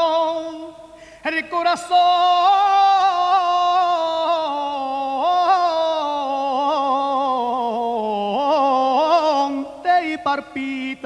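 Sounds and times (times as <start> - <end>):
man singing a long ornamented note: 0.0 - 11.0.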